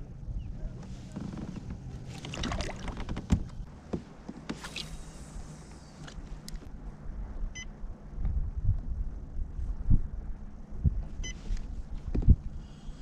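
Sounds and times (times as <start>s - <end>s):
low wind rumble: 0.0s - 4.3s, 4.9s - 13.0s.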